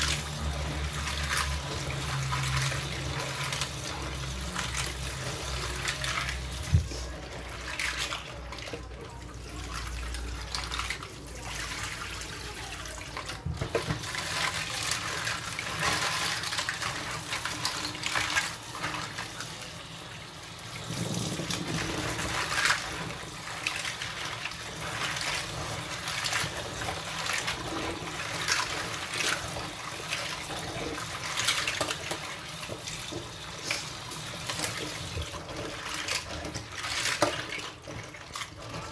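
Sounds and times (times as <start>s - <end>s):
clams rubbed and rinsed by hand: 0.0s - 38.9s.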